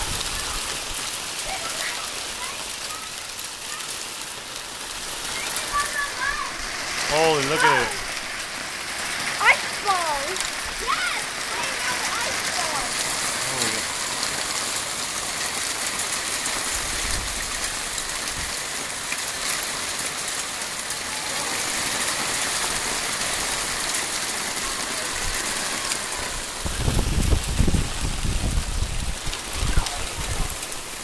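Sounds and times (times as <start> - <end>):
hail pelting wooden deck: 0.0 - 31.0.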